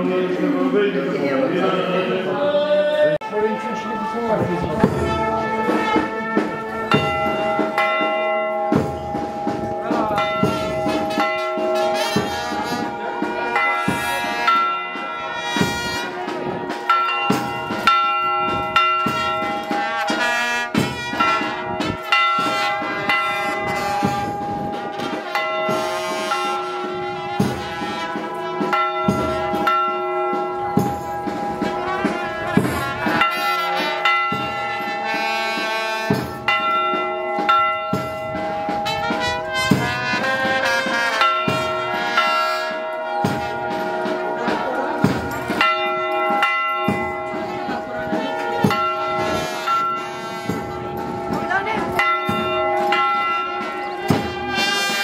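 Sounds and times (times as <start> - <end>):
church bells tolling: 3.2 - 55.0.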